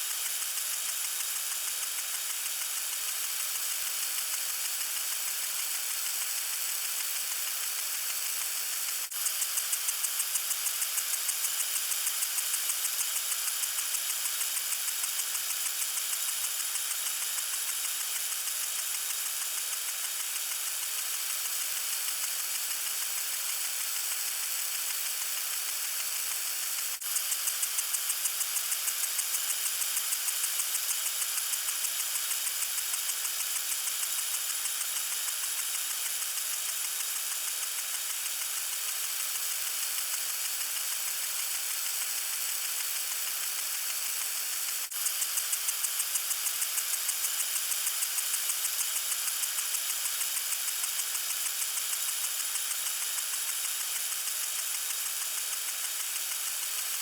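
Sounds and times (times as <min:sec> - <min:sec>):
water sprinkler spraying: 0:00.0 - 0:57.0.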